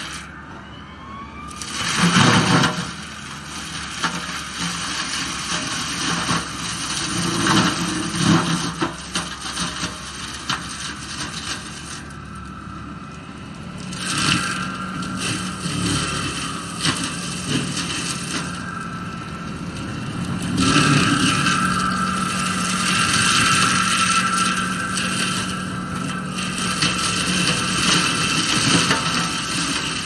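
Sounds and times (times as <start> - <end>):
skid steer engine under load: 0.0 - 30.0
mulching head grinding brush: 1.7 - 30.0.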